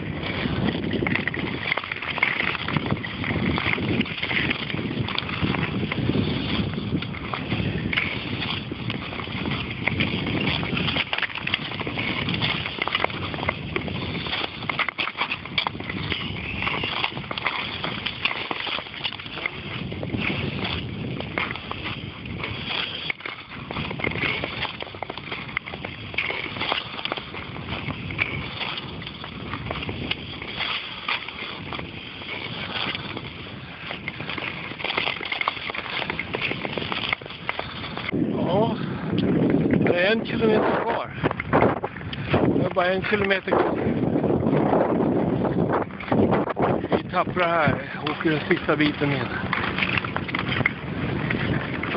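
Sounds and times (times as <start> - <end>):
skates scraping over ice: 0.0 - 51.9
wind buffeting microphone: 0.0 - 51.9.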